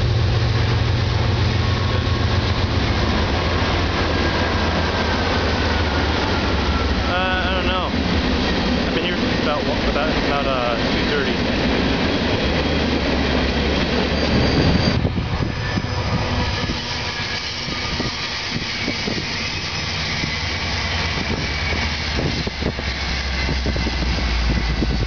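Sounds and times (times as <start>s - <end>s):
diesel locomotive engine hum: 0.0s - 25.0s
freight train wheels rumbling: 0.0s - 25.0s.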